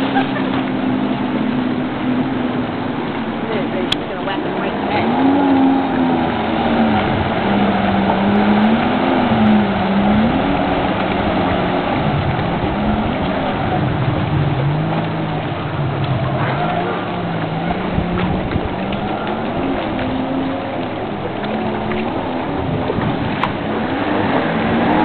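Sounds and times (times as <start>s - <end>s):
rushing water: 0.0s - 25.0s
watercraft engine running: 0.0s - 25.0s
wind noise: 0.0s - 25.0s.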